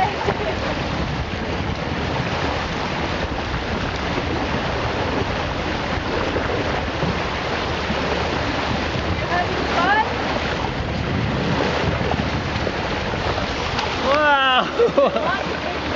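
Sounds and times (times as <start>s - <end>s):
water rushing along boat hull: 0.0s - 15.9s
wind on microphone: 0.0s - 15.9s.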